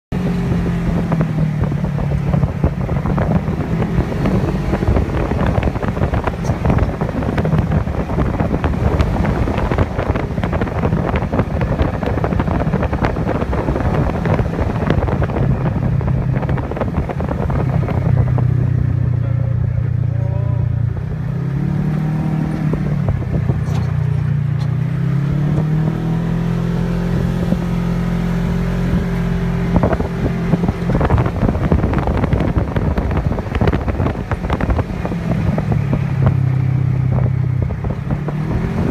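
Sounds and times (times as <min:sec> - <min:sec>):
bumpy road noise: 0:00.0 - 0:38.9
engine running steadily: 0:00.0 - 0:38.9
wind noise: 0:00.1 - 0:38.9.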